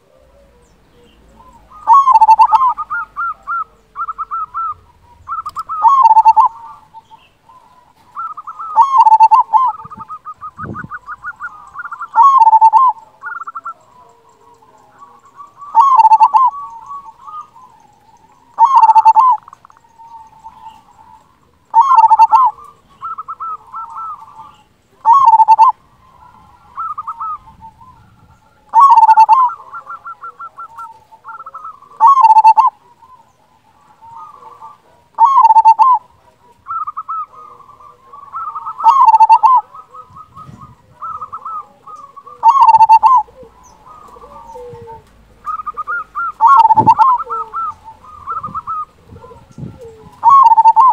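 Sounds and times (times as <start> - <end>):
dove cooing song: 0.0 - 50.9
soft bird trills: 0.0 - 50.9.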